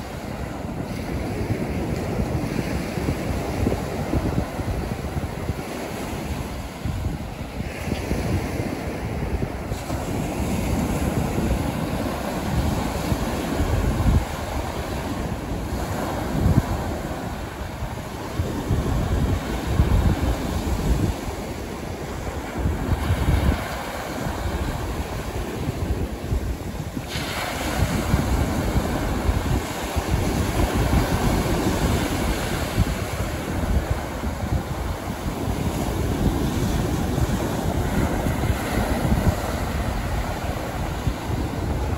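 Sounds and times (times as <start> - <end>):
surf washing onto beach: 0.0 - 41.9
wind buffeting microphone: 0.0 - 41.9.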